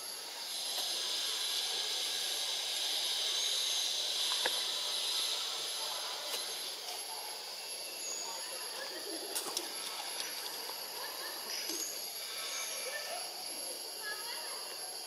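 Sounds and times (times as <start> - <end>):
high-pitched insect buzz: 0.0 - 15.0.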